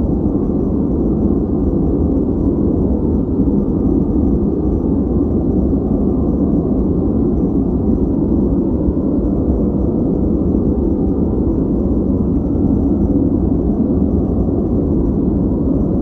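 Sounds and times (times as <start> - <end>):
deep muffled white noise: 0.0 - 16.0
low rumble: 0.0 - 16.0.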